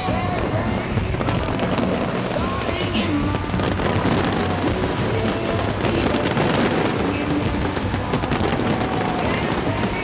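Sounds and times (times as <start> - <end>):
fireworks bangs and crackling: 0.0 - 10.0
music: 0.0 - 10.0.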